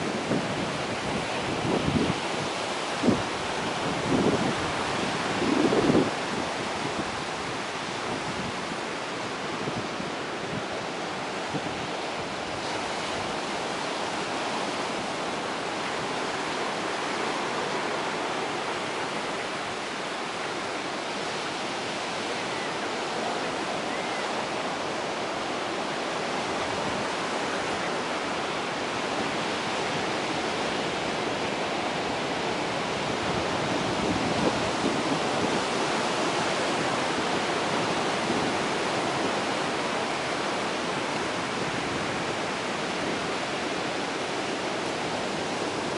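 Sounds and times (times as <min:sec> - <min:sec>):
surf washing over rocky shore: 0:00.0 - 0:45.9.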